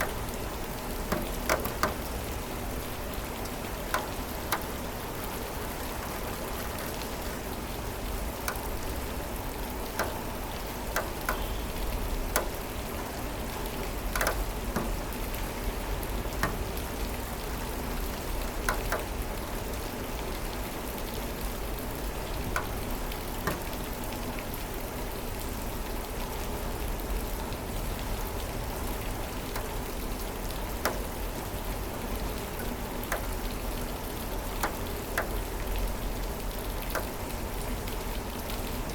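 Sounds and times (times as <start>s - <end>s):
close raindrops striking: 0.0s - 38.9s
steady rain: 0.0s - 38.9s.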